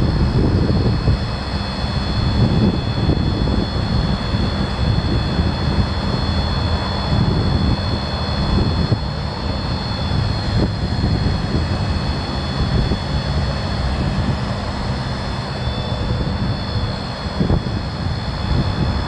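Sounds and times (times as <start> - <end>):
diesel engine running: 0.0 - 19.0
high-pitched whine: 0.0 - 19.0.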